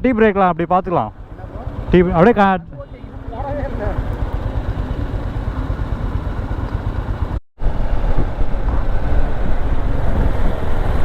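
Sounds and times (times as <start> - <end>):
motorcycle engine rumble: 1.1 - 11.0.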